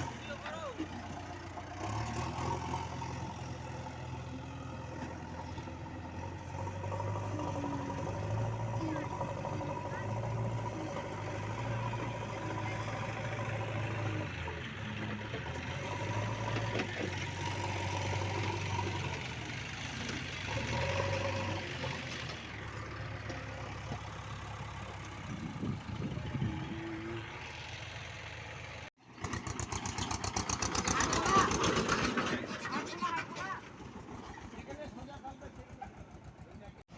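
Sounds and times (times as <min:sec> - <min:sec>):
heavy vehicle engine idling: 0:00.0 - 0:20.5, 0:21.4 - 0:31.7, 0:33.4 - 0:36.9.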